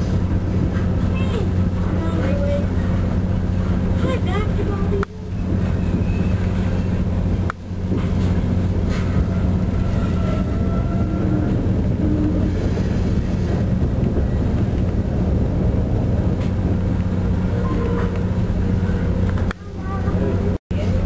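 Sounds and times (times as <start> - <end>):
train car rolling: 0.0 - 21.0.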